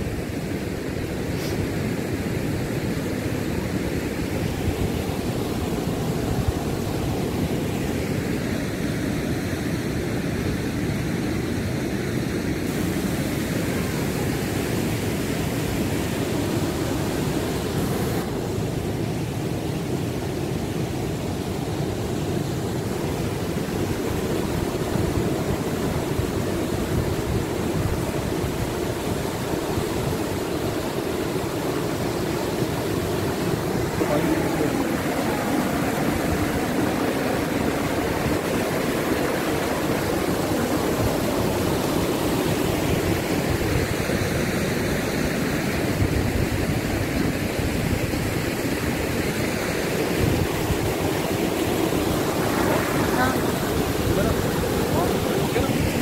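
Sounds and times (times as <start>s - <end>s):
river rushing through rapids: 0.0s - 56.0s.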